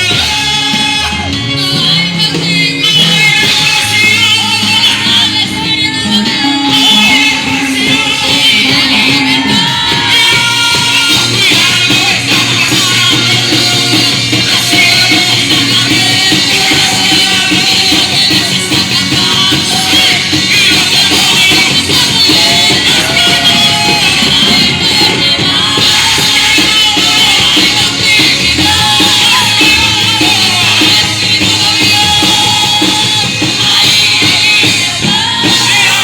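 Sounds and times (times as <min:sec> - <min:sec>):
drums and cymbals: 0:00.0 - 0:36.0
rock band playing: 0:00.0 - 0:36.0
voices singing: 0:00.0 - 0:36.0.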